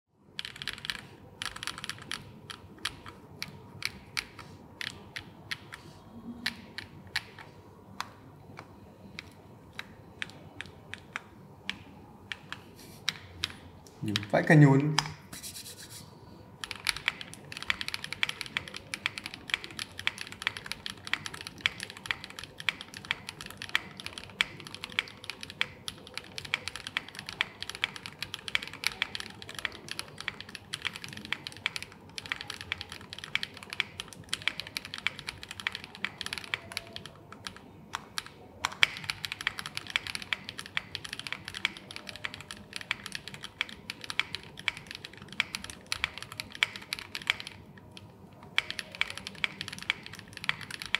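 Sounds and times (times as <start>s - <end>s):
mechanical keyboard typing: 0.4s - 5.8s, 6.4s - 15.1s, 16.6s - 50.9s.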